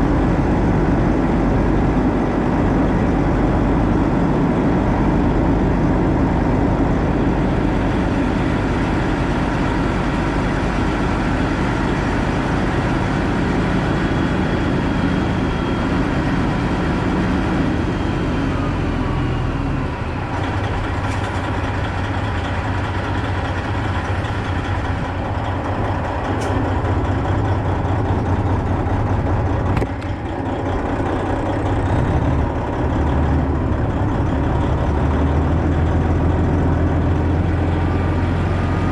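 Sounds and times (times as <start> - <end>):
diesel truck engine rumbling: 0.0 - 38.9.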